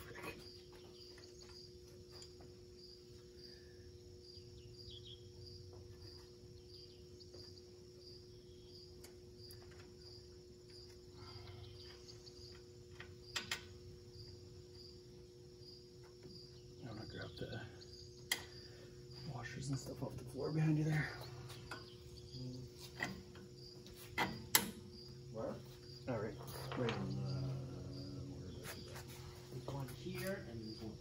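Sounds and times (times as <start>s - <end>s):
cricket chirping: 0.0s - 31.0s
low hum: 0.0s - 31.0s.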